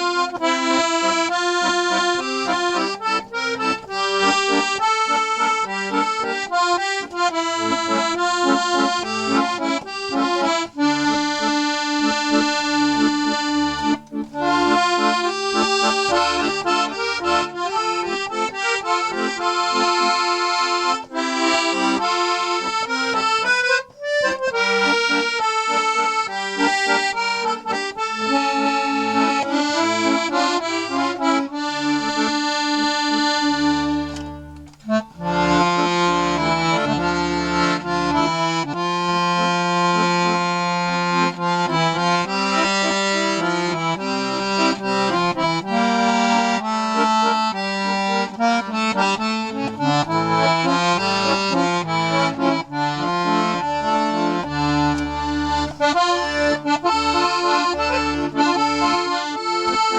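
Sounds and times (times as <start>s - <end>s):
accordion melody with bass: 0.0s - 59.9s.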